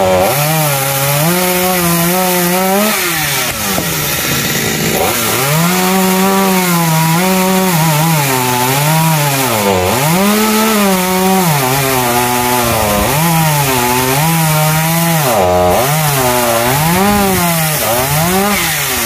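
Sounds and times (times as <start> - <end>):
chainsaw cutting tree trunk: 0.0 - 19.0.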